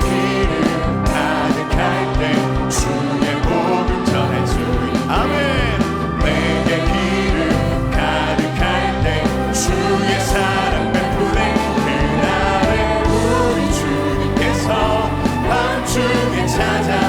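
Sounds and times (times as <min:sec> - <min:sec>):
bass: 0:00.0 - 0:17.0
people singing: 0:00.0 - 0:17.0.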